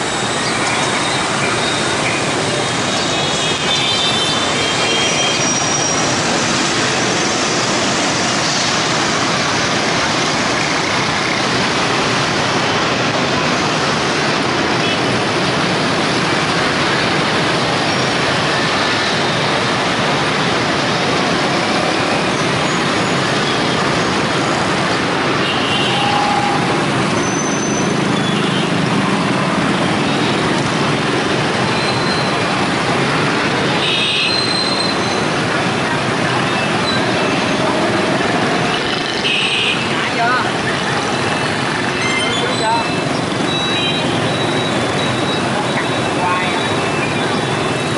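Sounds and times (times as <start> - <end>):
heavy motorbike traffic: 0.0 - 47.9.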